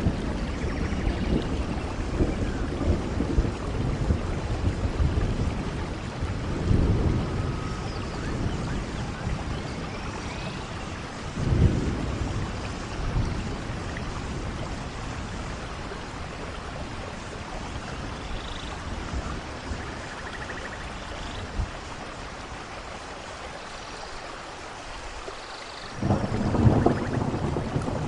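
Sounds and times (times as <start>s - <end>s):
low rumbles of thunder: 0.0s - 22.2s, 25.9s - 28.0s
steady rainfall: 0.0s - 28.0s.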